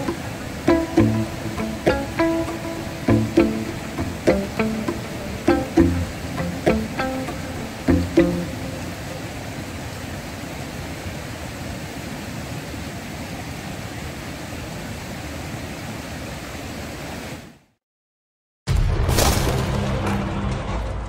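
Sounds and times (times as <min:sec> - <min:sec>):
stream flowing over stones: 0:00.0 - 0:17.5.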